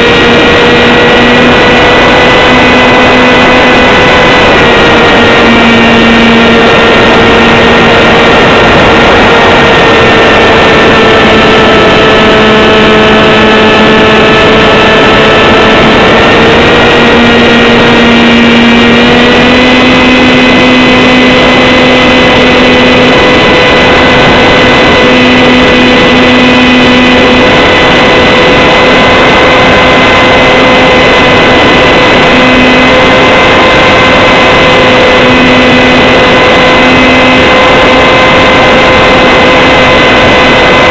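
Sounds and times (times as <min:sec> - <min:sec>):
electric motor propeller whining: 0:00.0 - 0:40.9
rushing wind noise: 0:00.0 - 0:40.9.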